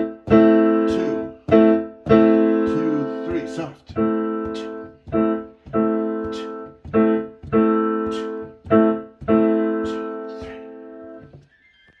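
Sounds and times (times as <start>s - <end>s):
piano chords: 0.0s - 11.4s.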